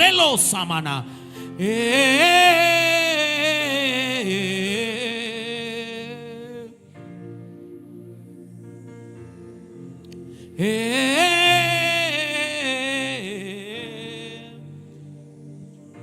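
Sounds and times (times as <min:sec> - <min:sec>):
soft keyboard pad: 0:00.0 - 0:16.0
wordless sung note: 0:00.0 - 0:16.0.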